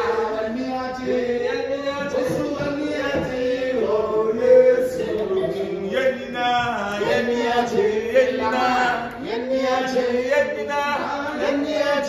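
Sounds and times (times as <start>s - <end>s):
men singing chant-like refrain: 0.0s - 12.0s.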